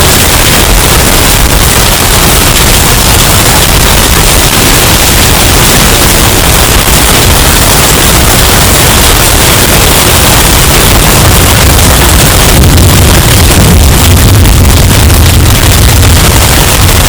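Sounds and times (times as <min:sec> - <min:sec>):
distorted hurricane wind: 0:00.0 - 0:17.0.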